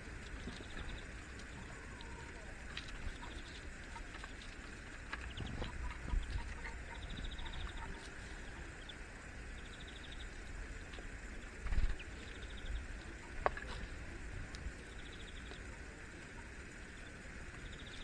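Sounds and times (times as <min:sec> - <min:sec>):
outdoor background noise: 0:00.0 - 0:18.0
wind rumble on microphone: 0:00.0 - 0:18.0.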